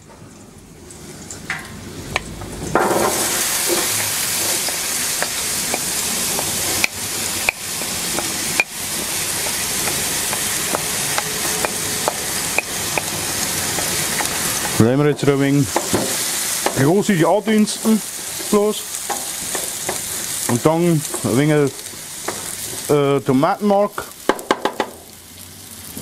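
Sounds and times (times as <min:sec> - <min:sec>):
vegetables sizzling in hot oil: 0:01.0 - 0:26.0.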